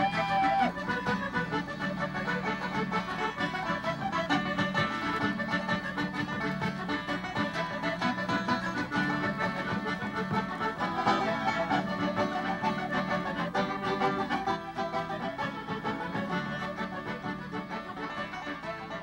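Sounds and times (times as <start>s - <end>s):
instrumental folk reel: 0.0s - 19.0s.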